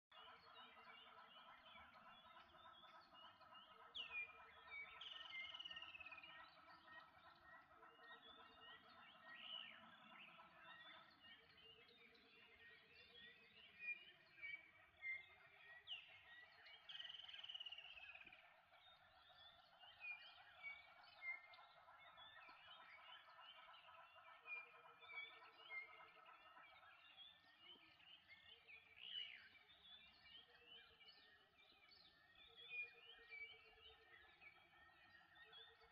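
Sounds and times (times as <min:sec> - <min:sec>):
birds chirping and calling: 0:00.1 - 0:35.9.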